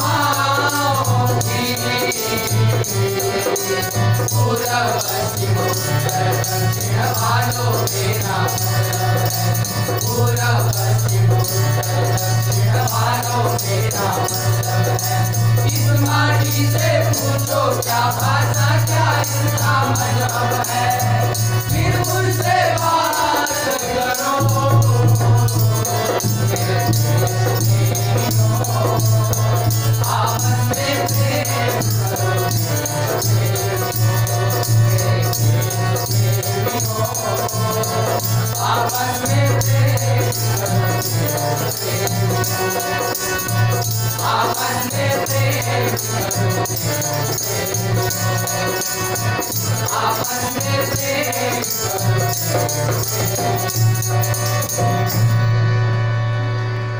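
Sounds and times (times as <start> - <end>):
boys singing in chorus: 0.0 - 55.3
rattling hand percussion: 0.0 - 55.7
harmonium: 0.0 - 56.9.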